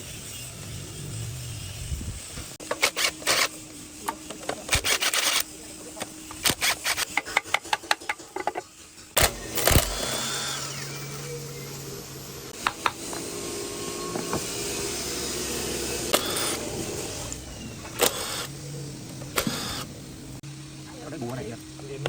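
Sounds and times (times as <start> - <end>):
small motor running: 0.0 - 7.2, 9.2 - 22.0.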